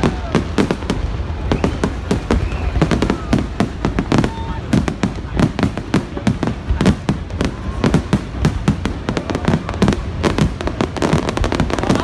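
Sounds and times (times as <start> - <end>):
fireworks cracks and bangs: 0.0 - 12.0
low rumble of explosions: 0.0 - 12.0.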